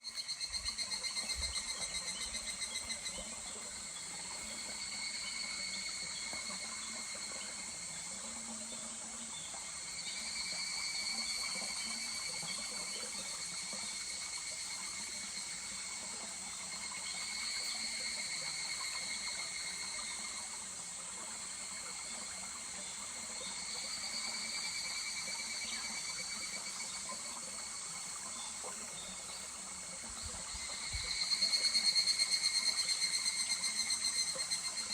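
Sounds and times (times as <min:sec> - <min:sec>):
cicadas trilling: 0:00.0 - 0:34.9
small stream murmuring: 0:00.0 - 0:34.9.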